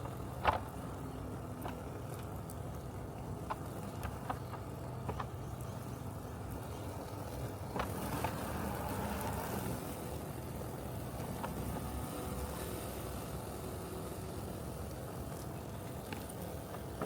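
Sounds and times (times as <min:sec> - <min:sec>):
robotic lawn mower humming: 0:00.0 - 0:17.0.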